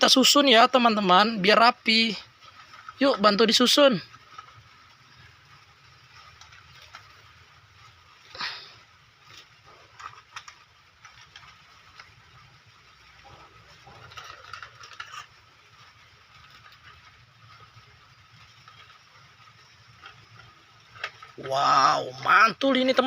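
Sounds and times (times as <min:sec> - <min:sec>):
plastic toy vehicles clicking: 0:00.0 - 0:23.0.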